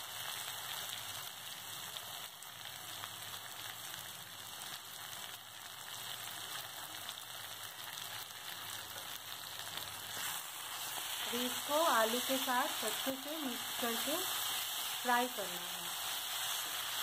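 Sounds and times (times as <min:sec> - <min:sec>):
potatoes and onions sizzling in oil: 0:00.0 - 0:17.0.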